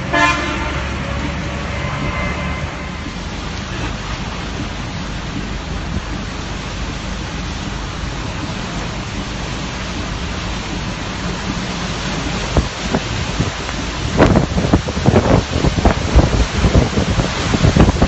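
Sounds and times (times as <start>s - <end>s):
heavy rain hiss: 0.0s - 18.0s.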